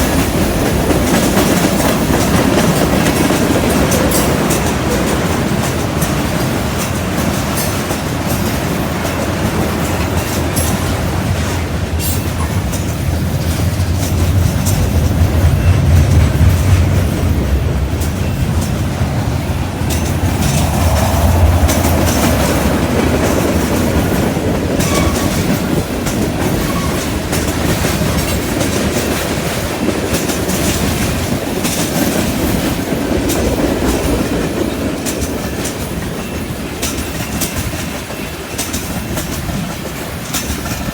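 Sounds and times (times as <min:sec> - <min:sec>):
train wheels clacking on track: 0:00.0 - 0:40.9.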